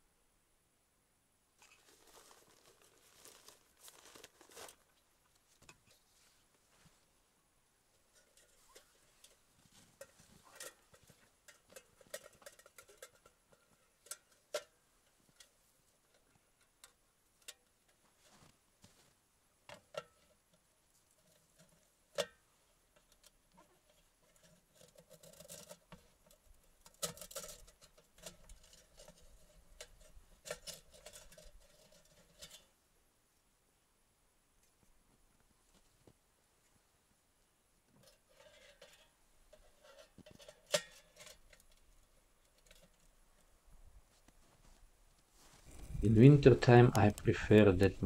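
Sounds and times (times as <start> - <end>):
small clattering noises: 1.6 - 7.2, 7.9 - 32.8, 37.8 - 48.0.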